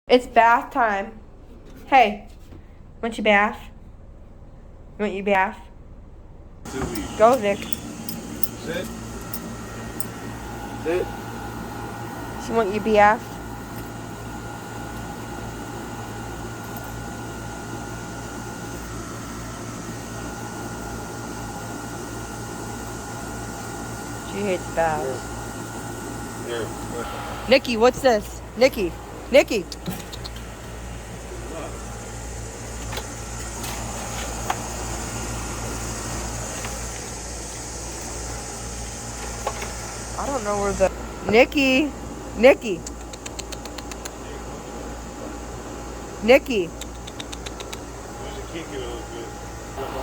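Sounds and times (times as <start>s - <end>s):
low mechanical hum: 0.1s - 50.0s.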